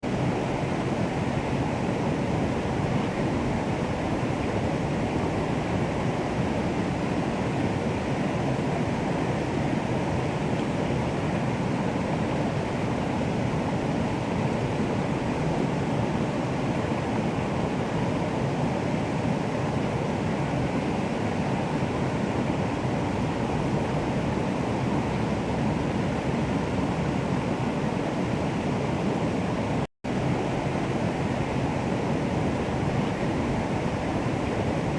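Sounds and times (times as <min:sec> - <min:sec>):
water rushing: 0:00.0 - 0:34.9.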